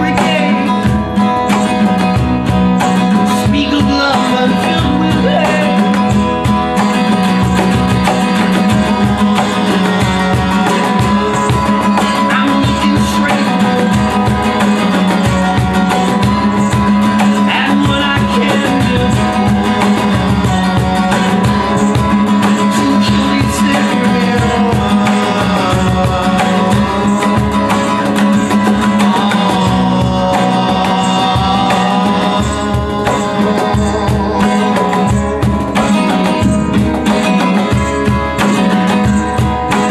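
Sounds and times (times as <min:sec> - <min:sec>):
guitar: 0:00.0 - 0:39.9
steady percussion beat: 0:00.0 - 0:39.9.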